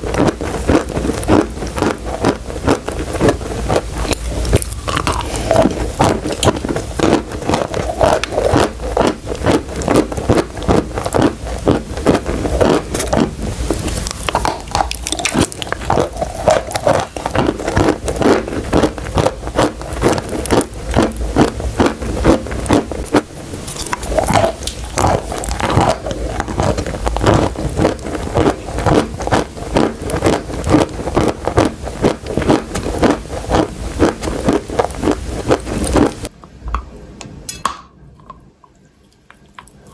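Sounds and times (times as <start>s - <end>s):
chewing crunchy chalk: 0.0s - 36.3s.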